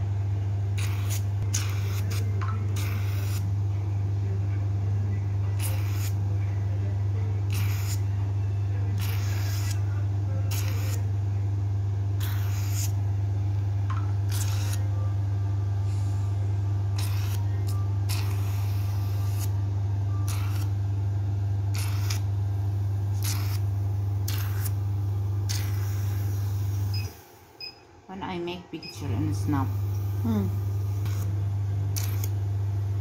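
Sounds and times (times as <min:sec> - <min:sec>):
vacuum pump humming: 0:00.0 - 0:33.0.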